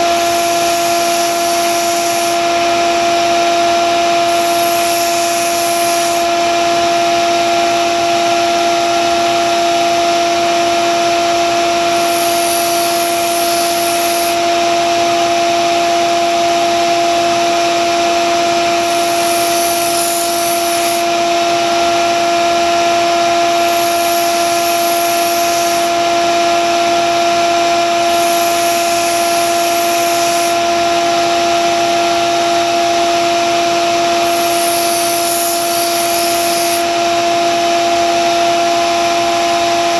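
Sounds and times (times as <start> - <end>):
belt sander motor humming: 0.0 - 8.6, 11.3 - 39.9.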